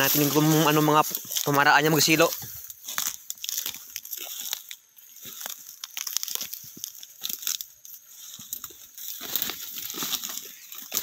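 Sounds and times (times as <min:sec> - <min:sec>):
footsteps through dry grass: 0:00.0 - 0:11.0.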